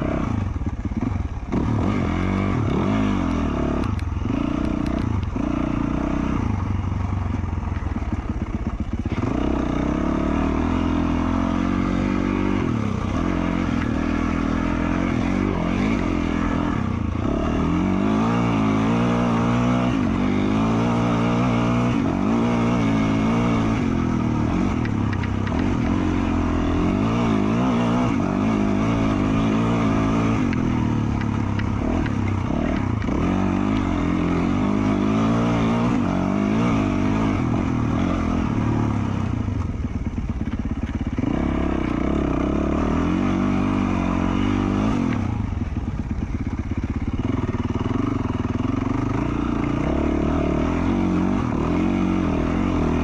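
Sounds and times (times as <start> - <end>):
dirt bike engine revving: 0.0 - 39.4, 40.1 - 53.0.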